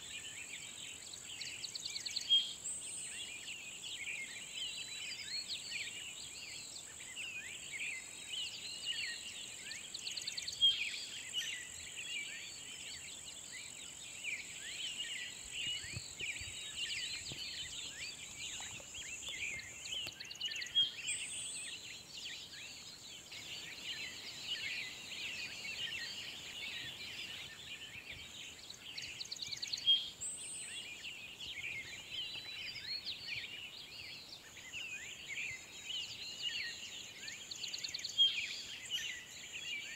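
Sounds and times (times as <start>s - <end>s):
chorus of birds singing: 0.0s - 39.9s.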